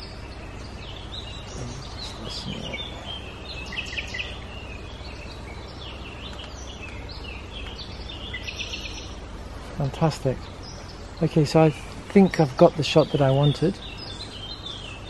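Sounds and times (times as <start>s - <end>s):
birds chirping and calling: 0.0s - 15.0s
low steady rumble: 0.0s - 15.0s.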